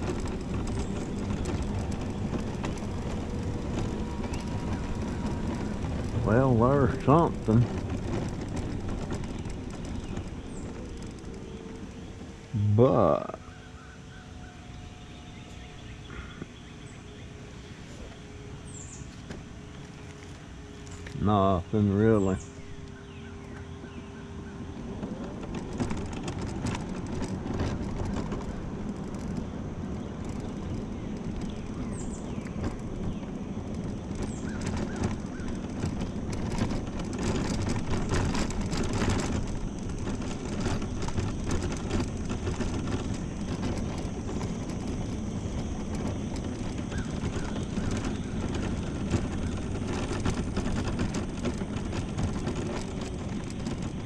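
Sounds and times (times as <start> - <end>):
small rattles and knocks: 0.0 - 13.5, 17.8 - 54.0
mobility scooter motor hum: 0.0 - 54.0
tyre noise on asphalt: 0.0 - 54.0.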